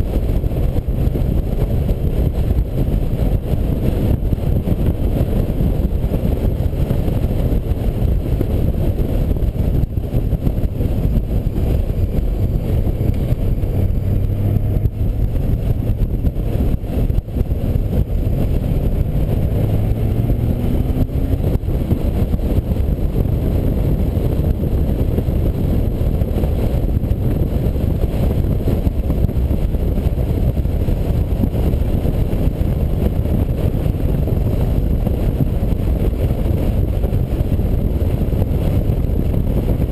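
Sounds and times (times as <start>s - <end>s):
motorcycle engine: 0.0s - 39.9s
wind rumble on microphone: 0.0s - 39.9s.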